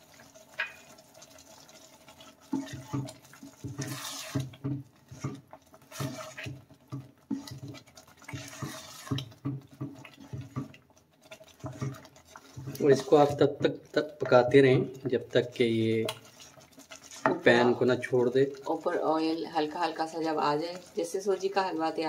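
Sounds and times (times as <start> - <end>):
spoon stirring thick mixture: 0.0 - 22.0.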